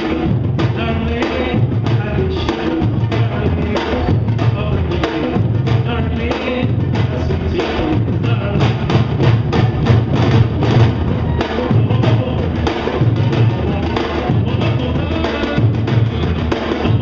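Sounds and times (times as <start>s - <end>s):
bass drums pounding: 0.0s - 17.0s
sharp drum strokes: 0.0s - 17.0s.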